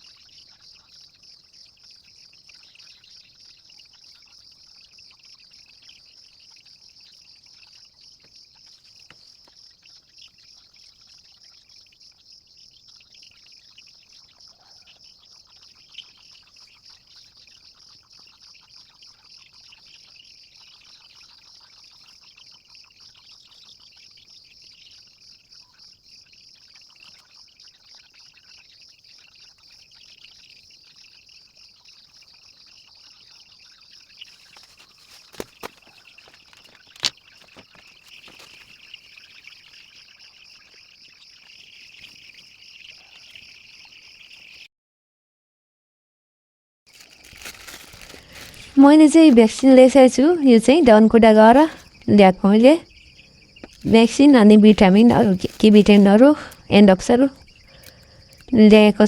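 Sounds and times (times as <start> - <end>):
crickets trilling: 0.0 - 44.6, 46.9 - 59.0
soft chirping: 0.0 - 44.7, 46.9 - 59.0.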